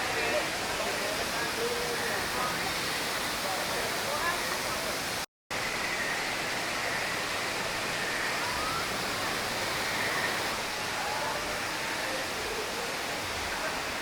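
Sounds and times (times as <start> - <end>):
faint voices: 0.0 - 5.2, 7.8 - 14.0
waterfall rushing: 0.0 - 14.0.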